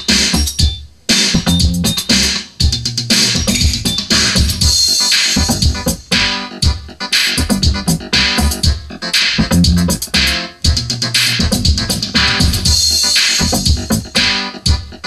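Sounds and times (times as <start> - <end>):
drum machine dance beat: 0.0 - 15.0.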